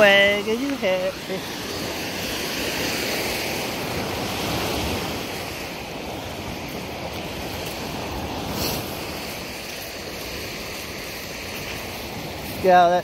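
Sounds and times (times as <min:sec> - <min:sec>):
lake waves washing on shore: 0:00.0 - 0:13.0
wind buffeting microphone: 0:00.0 - 0:13.0.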